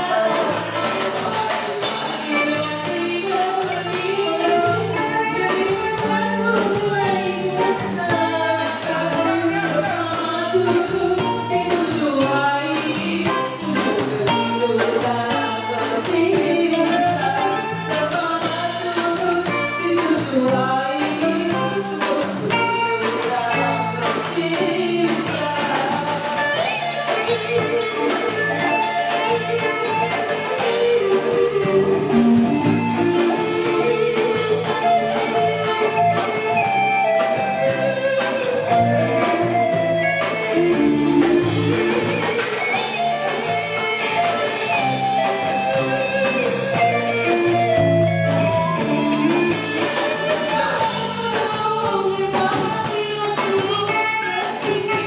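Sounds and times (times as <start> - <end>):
bass guitar: 0.0 - 55.0
drum kit: 0.0 - 55.0
electric guitar: 0.0 - 55.0
woman singing into microphone: 0.0 - 55.0.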